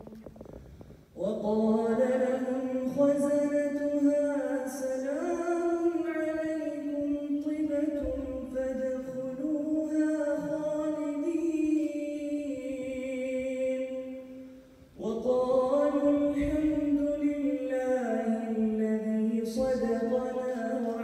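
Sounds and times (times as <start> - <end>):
man chanting recitation: 1.2 - 21.0.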